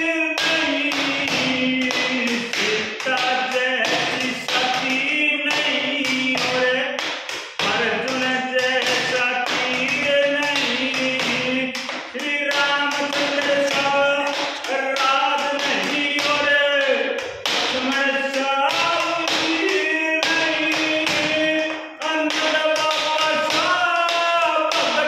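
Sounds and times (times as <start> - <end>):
man singing folk song: 0.0 - 7.0, 7.6 - 25.0
hand slapping wooden desk: 0.4 - 25.0.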